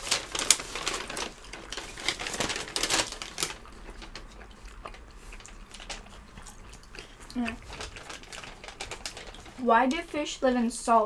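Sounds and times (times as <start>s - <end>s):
chewing crunchy pizza: 0.0s - 10.4s.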